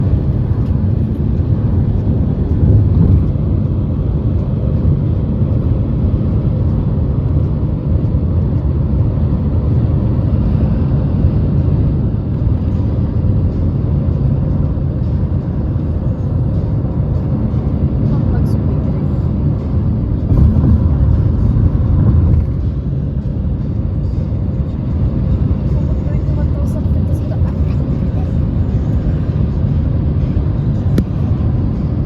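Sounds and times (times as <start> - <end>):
vehicle road and engine rumble: 0.0 - 32.0.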